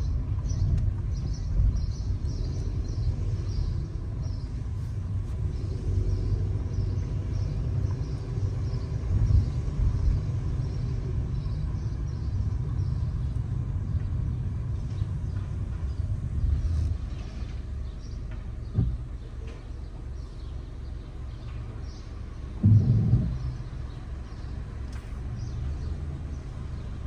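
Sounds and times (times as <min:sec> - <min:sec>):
car driving rumble: 0:00.0 - 0:27.0.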